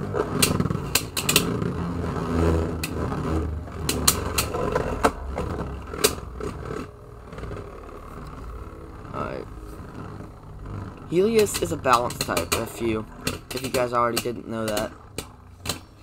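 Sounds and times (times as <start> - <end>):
spinning tops whirring grind: 0.0 - 16.0.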